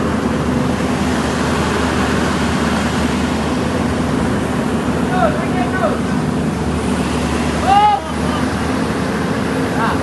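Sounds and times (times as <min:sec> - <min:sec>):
engine humming and rumbling: 0:00.0 - 0:10.0.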